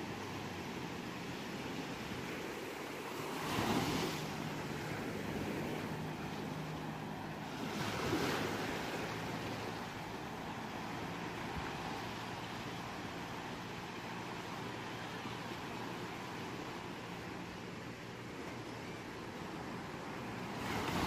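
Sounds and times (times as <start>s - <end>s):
ocean waves breaking: 0.0s - 21.0s
surf hiss: 0.0s - 21.0s.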